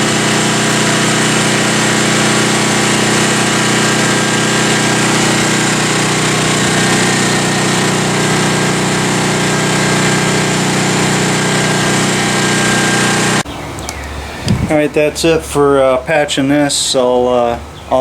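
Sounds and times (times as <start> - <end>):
steady motor drone: 0.0 - 14.8.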